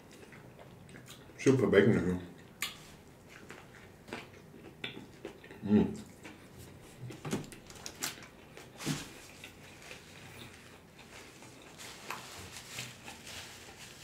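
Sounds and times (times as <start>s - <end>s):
person chewing: 0.0s - 1.4s, 2.4s - 7.2s, 7.8s - 14.0s.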